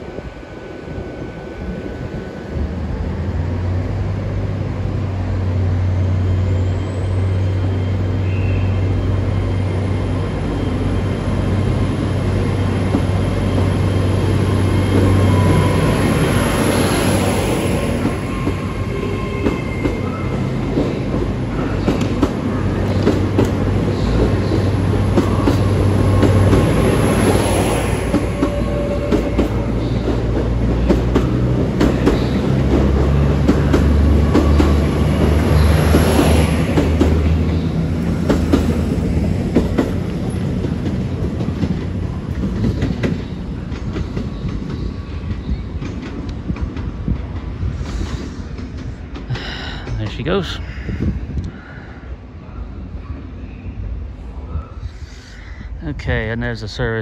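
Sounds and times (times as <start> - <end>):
train engine droning: 0.0 - 57.0.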